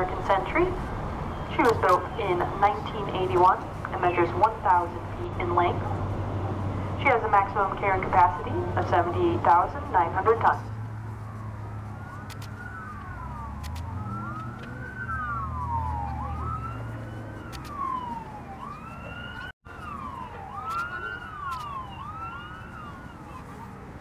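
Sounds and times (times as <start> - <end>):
sirens wailing: 0.0 - 24.0.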